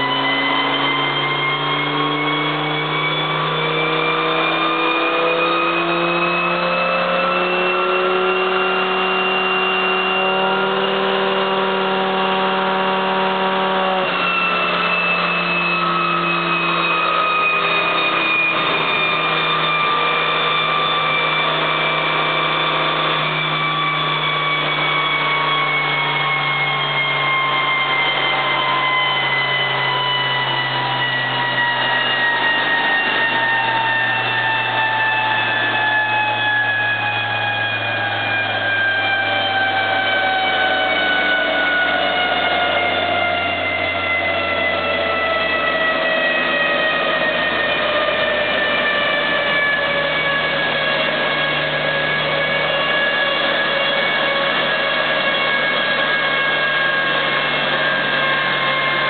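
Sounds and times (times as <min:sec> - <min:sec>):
car engine revving on dyno: 0:00.0 - 0:59.0.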